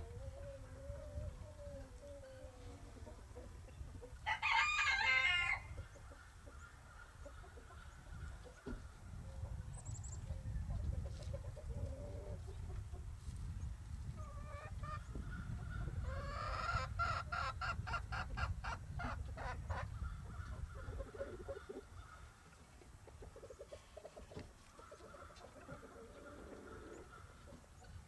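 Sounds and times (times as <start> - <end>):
chickens clucking: 0.0 - 4.3, 5.7 - 28.0.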